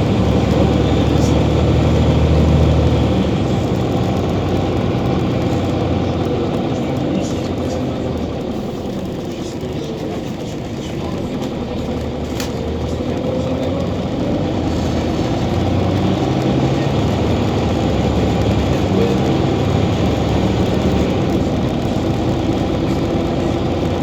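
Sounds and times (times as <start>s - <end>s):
bus engine accelerating: 0.0s - 24.0s.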